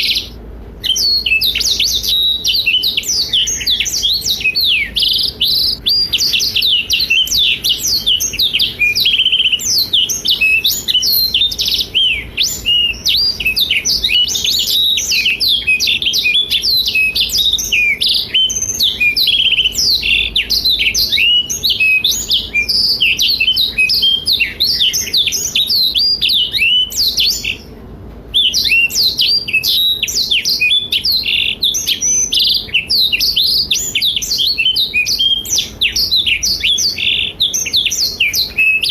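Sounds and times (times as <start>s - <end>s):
canary singing chirps and trills: 0.0s - 38.9s.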